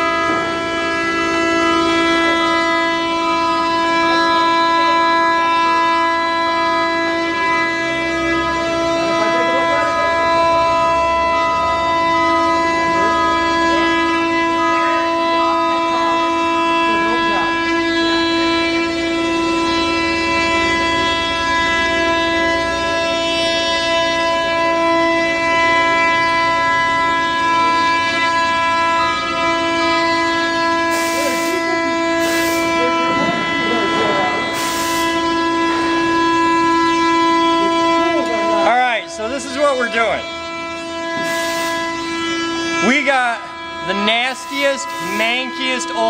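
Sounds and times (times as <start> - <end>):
steady machine whine: 0.0 - 46.0.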